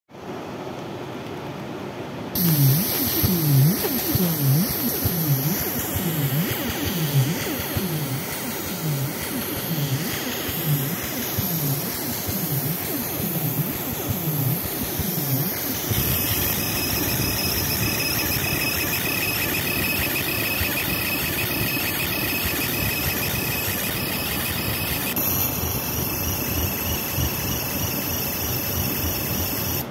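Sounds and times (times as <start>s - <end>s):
laser machine whine and buzz: 2.4s - 29.9s.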